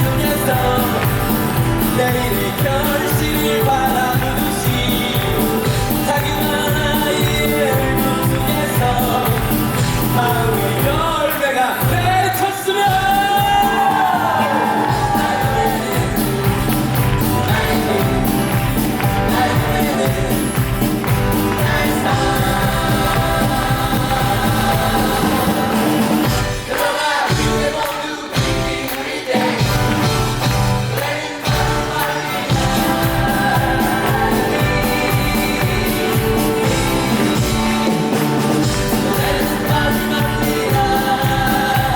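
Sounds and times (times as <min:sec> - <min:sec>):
live band playing pop-rock: 0:00.0 - 0:41.9
person singing: 0:00.0 - 0:41.9.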